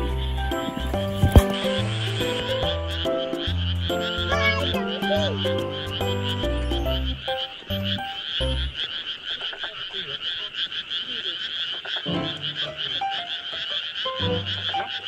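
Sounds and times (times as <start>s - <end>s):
chorus of frogs croaking: 0.0s - 15.0s.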